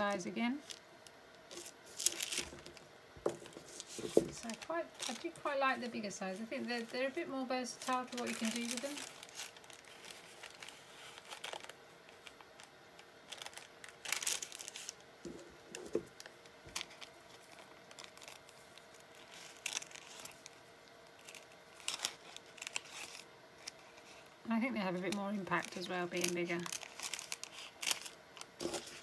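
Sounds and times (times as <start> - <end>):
paper and fabric rustling: 1.5 - 20.6, 21.2 - 29.0.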